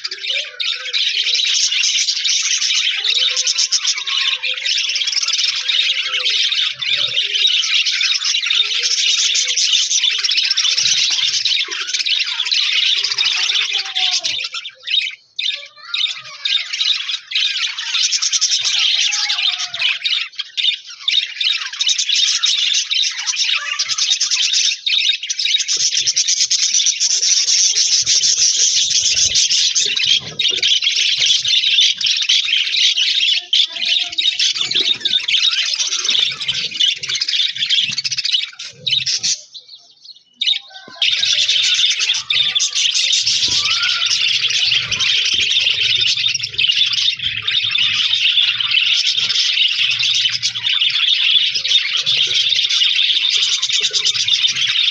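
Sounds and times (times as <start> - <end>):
budgerigars chirping: 0.0 - 54.9.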